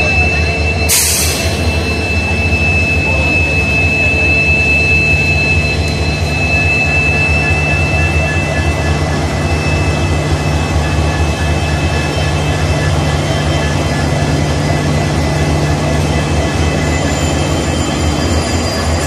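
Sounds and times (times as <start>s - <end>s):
locomotive engine drone: 0.0s - 19.0s.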